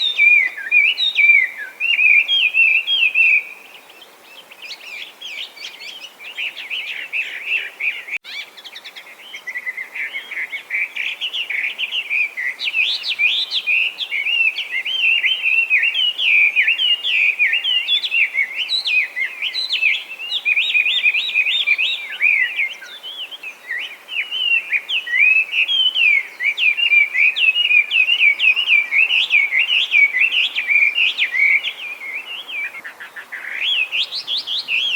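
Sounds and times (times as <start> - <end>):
bird singing whistled phrases: 0.0 - 3.8, 4.7 - 34.9.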